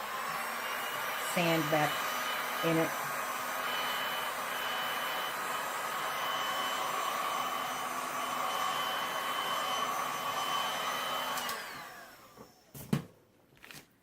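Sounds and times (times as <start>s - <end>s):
heat gun whirring: 0.0s - 13.0s.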